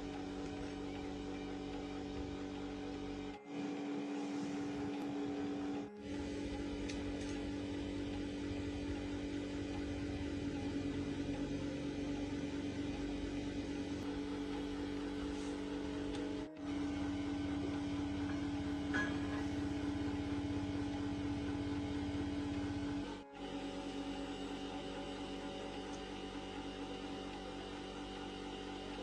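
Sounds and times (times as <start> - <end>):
electric motor humming: 0.0 - 29.0.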